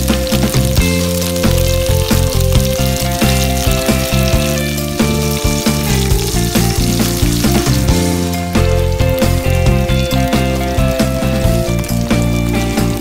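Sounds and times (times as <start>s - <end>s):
background music with bass line: 0.0s - 13.0s
chicken sizzling in hot oil: 0.0s - 13.0s.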